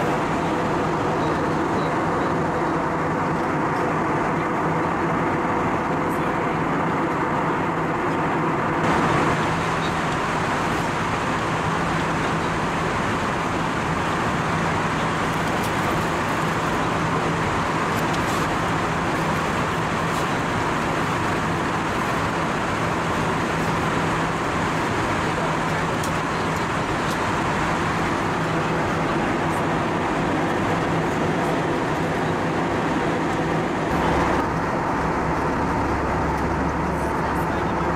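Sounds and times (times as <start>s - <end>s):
airliner cabin noise: 0.0s - 37.9s
low constant hum: 0.0s - 37.9s.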